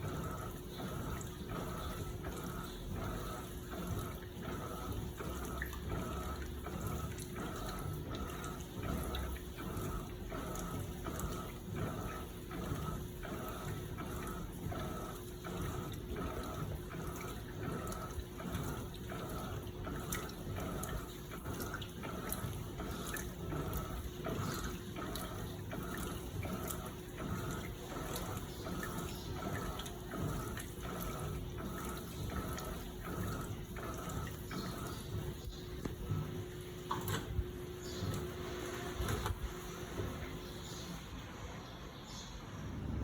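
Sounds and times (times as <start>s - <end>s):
washing machine churning water: 0.0s - 43.0s.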